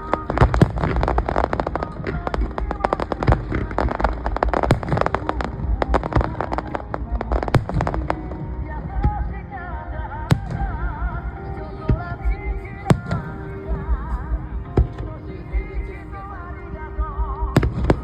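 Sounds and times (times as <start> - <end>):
fireworks bangs and crackles: 0.0 - 9.4, 10.3 - 16.3, 17.0 - 18.0
faint music: 0.0 - 18.0.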